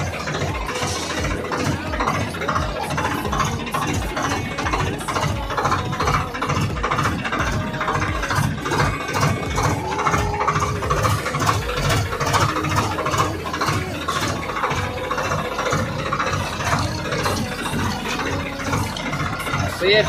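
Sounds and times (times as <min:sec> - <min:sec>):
tractor diesel engine chugging: 0:00.0 - 0:20.0.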